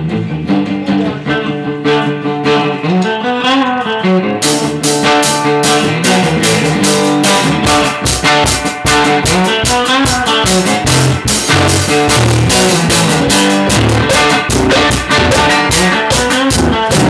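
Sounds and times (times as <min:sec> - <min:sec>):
plucked string music: 0:00.0 - 0:17.0
crisp beat: 0:00.1 - 0:17.0.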